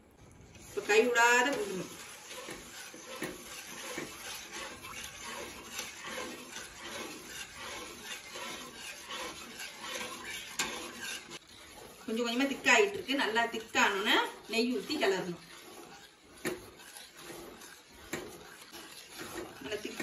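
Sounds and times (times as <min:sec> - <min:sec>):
metal spatula scraping a pan: 0:00.2 - 0:20.0.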